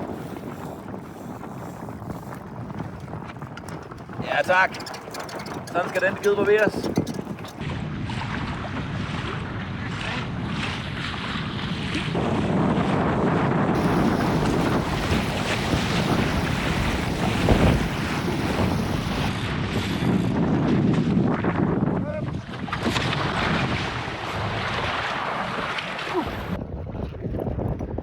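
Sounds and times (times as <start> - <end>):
wind buffeting microphone: 0.0 - 9.8, 11.6 - 28.0
water rushing along a hull: 0.0 - 12.8, 13.8 - 20.1, 22.4 - 26.6.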